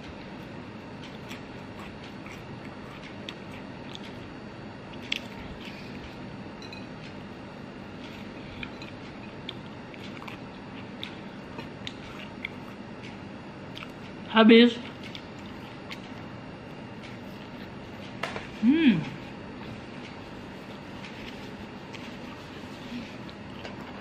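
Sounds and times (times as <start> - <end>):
person chewing with wet clicks: 0.0 - 23.9.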